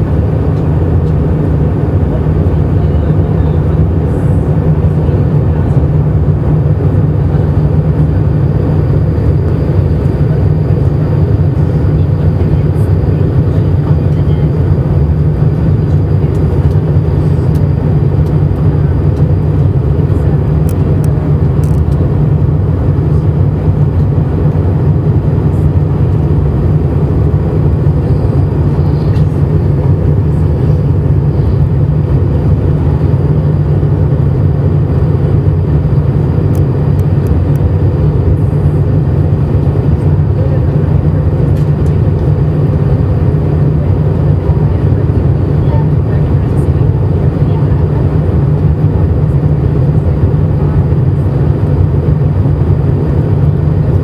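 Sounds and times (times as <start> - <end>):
jet cabin rumble: 0.0 - 54.0.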